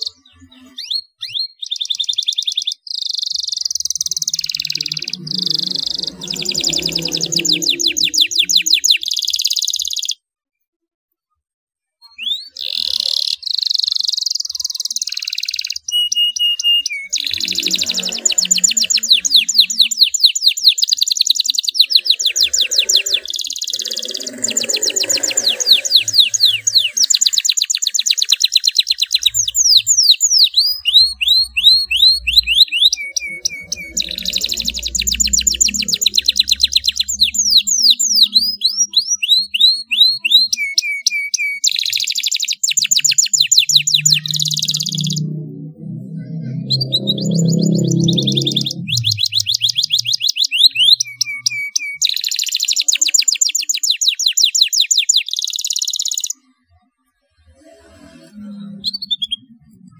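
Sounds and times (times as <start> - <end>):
canary singing trills: 0.0 - 10.2, 12.0 - 56.7, 57.6 - 59.9.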